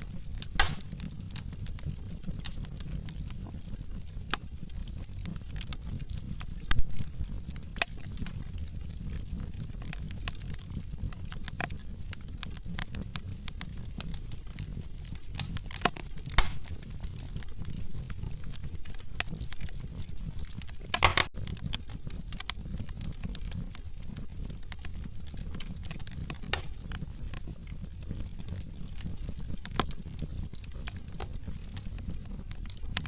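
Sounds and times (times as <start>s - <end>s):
low rumble of flames: 0.0s - 33.0s
wood fire crackling: 0.0s - 33.0s.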